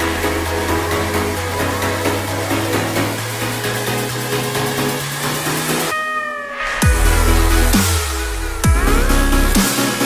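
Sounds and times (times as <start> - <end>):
electronic music: 0.0 - 10.0
heavy bass drop: 0.0 - 10.0.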